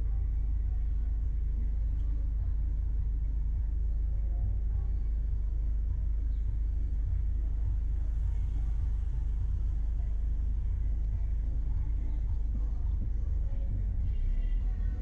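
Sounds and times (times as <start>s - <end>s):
car driving on road: 0.0s - 15.0s.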